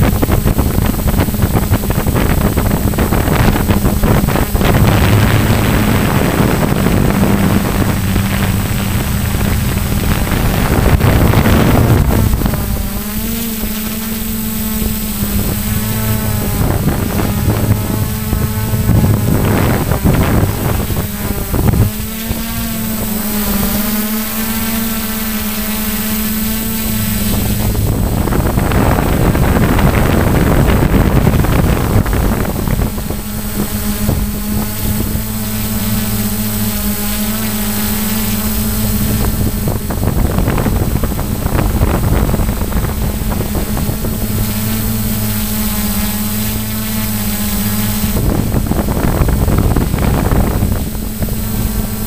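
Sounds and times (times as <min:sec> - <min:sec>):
model plane motor humming: 0:00.0 - 0:52.0
wind rushing over microphone: 0:00.0 - 0:52.0.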